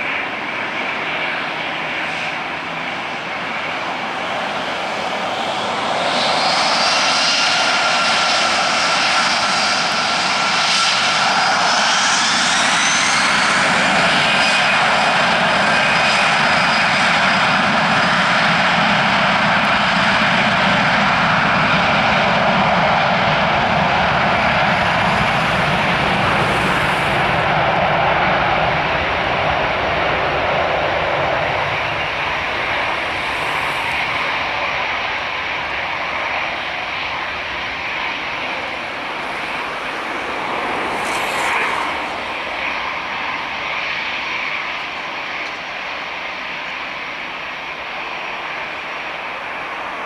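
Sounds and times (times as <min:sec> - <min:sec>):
jet engines rushing: 0:00.0 - 0:50.0.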